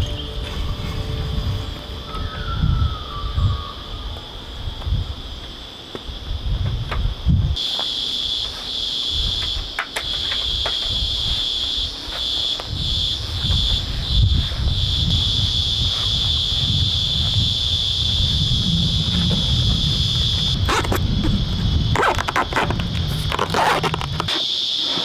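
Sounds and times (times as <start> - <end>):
wind gusts on microphone: 0.0 - 7.7, 9.1 - 24.3
high-pitched insect chorus: 0.0 - 25.0.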